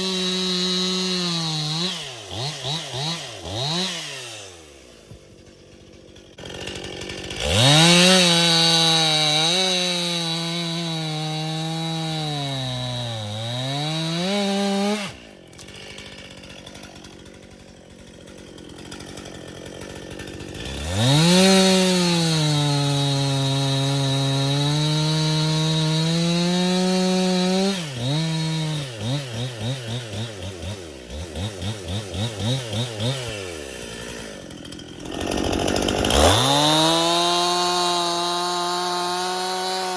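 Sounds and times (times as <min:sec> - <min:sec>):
chainsaw cutting log: 0:00.0 - 0:39.9
chainsaw idling: 0:00.0 - 0:39.9
chainsaw throttle blips: 0:00.0 - 0:39.9.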